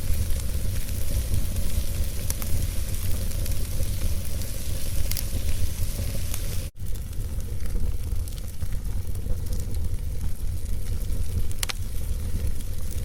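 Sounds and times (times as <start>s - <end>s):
fire crackles: 0.0s - 13.0s
log fire rumbling and hissing: 0.0s - 13.0s.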